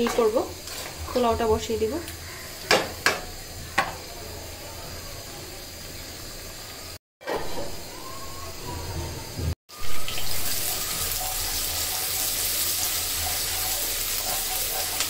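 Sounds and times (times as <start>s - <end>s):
curry sizzling in a pan: 0.0s - 7.0s, 9.7s - 15.0s.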